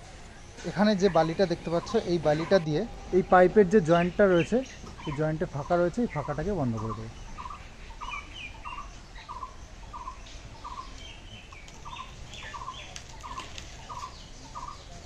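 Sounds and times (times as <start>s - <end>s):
higher bird chirps: 0.3s - 15.0s.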